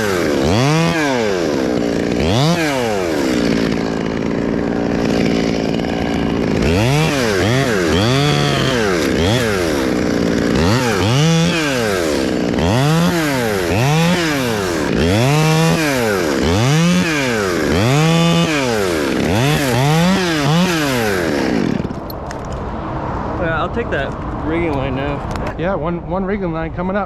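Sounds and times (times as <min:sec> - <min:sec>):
chainsaw cutting wood: 0:00.0 - 0:22.2.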